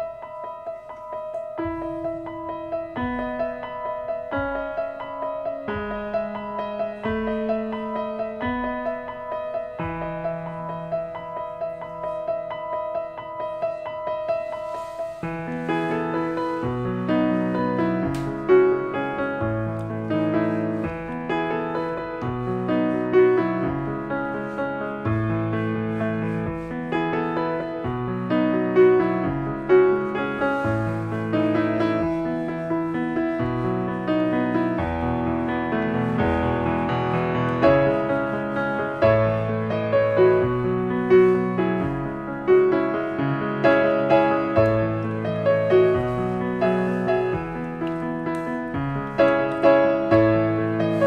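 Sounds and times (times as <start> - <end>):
solo piano piece: 0.0 - 51.0.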